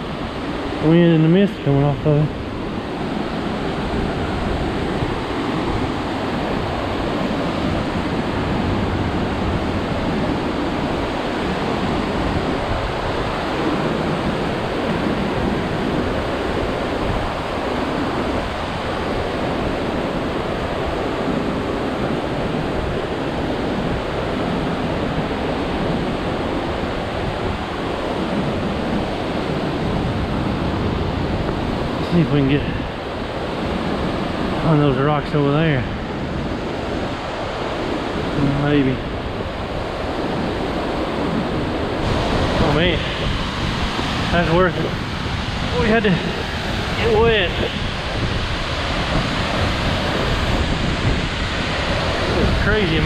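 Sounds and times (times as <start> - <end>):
waterfall roaring: 0.0 - 22.3, 26.3 - 53.0
wind buffeting microphone: 0.0 - 53.0.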